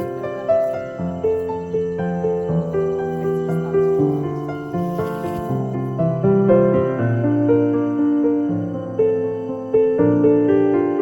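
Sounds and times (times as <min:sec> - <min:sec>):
gentle keyboard melody: 0:00.0 - 0:11.0.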